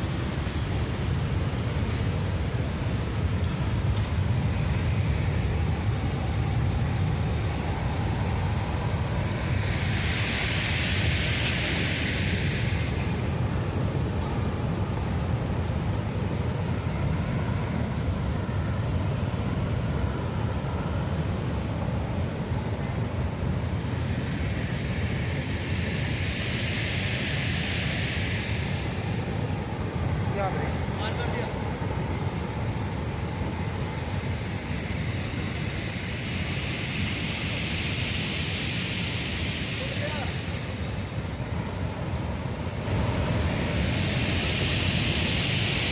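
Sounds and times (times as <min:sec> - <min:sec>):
river rushing in flood: 0:00.0 - 0:45.9.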